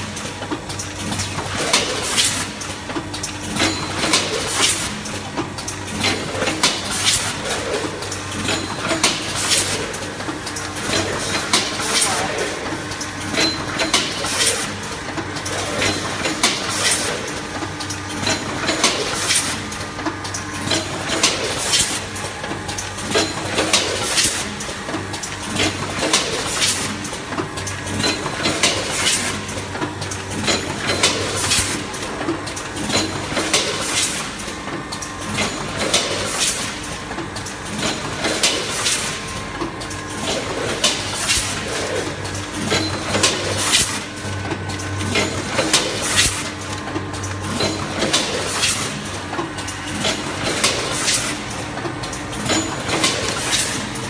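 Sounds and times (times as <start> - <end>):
machine clacks: 0.0 - 54.0
packing machine hum: 0.0 - 54.0.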